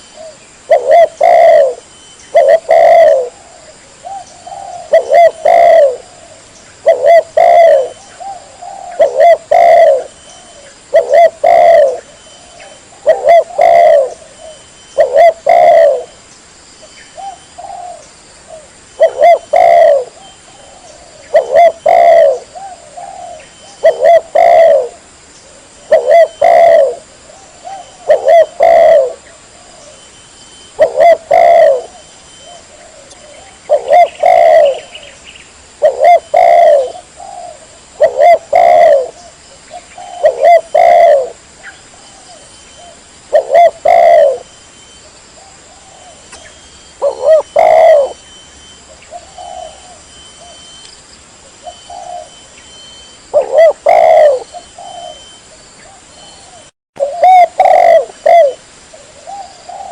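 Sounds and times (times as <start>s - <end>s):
dove cooing: 0.0s - 16.2s, 17.2s - 30.1s, 30.7s - 35.2s, 35.8s - 44.5s, 45.4s - 50.8s, 51.5s - 59.9s.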